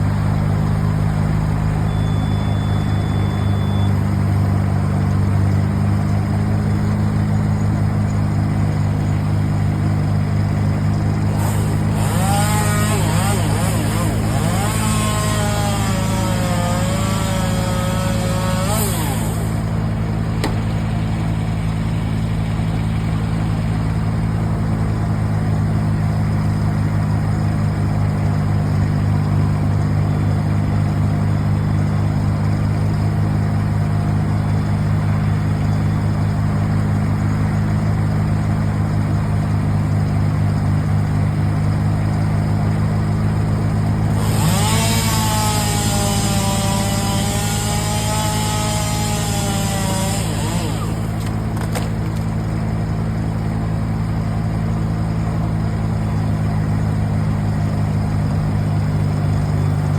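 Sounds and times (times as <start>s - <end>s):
engine droning steadily: 0.0s - 59.9s.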